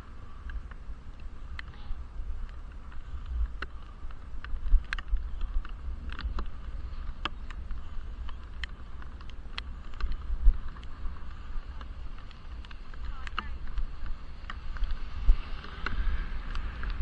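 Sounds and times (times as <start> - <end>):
muffled wind rumble: 0.0 - 17.0
sharp ticks: 2.4 - 17.0.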